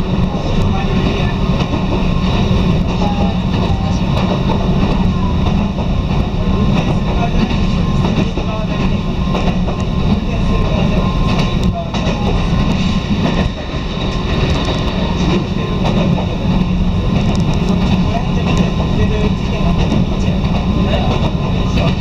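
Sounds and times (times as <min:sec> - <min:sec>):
electric train running rumble: 0:00.0 - 0:22.0.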